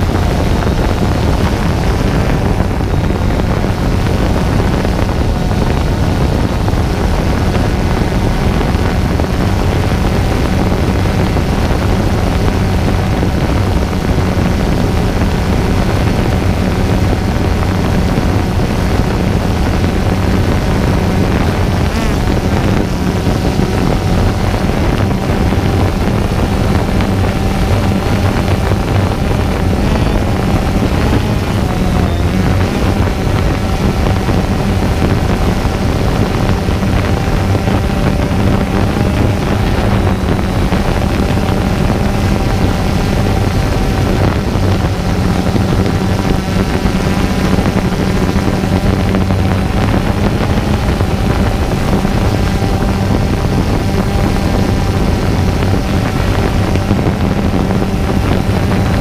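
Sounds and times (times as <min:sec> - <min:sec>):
drone motors humming: 0:00.0 - 0:59.0.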